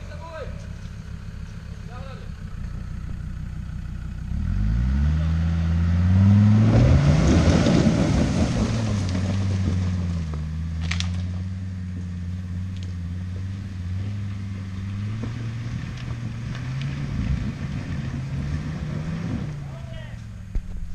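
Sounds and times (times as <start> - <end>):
diesel engine pulling uphill: 0.0 - 20.9.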